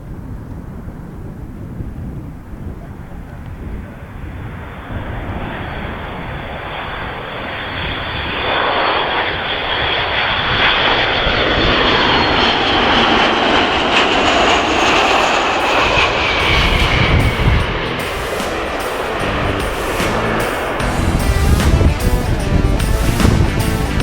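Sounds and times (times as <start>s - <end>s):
jet engines passing: 2.4s - 24.0s
high engine whine: 4.7s - 24.0s.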